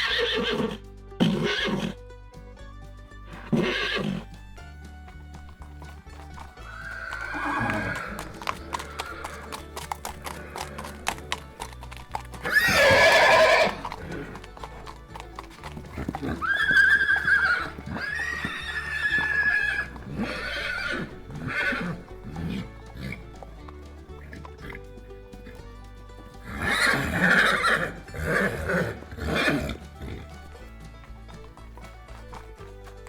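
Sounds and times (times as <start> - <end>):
hooves clattering: 0.0 - 33.0
horses neighing: 0.0 - 33.0
quiet background music: 0.0 - 33.0.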